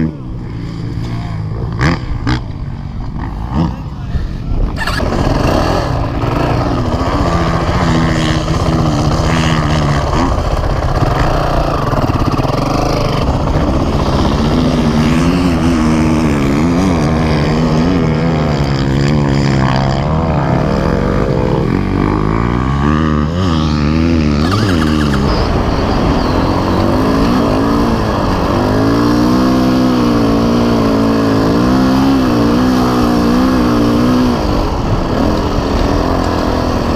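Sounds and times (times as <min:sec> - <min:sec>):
dirt bike engines revving: 0:00.0 - 0:36.9.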